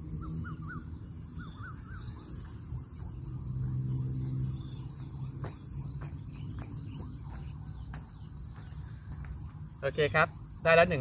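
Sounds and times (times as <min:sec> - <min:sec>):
bird calling: 0:00.0 - 0:11.0
crickets and insects calling: 0:00.0 - 0:11.0.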